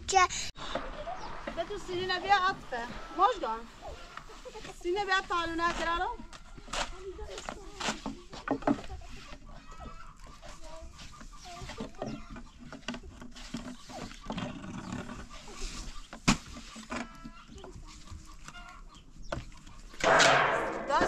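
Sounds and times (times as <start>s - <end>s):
farm animals calling: 0.6s - 7.4s, 8.0s - 20.4s.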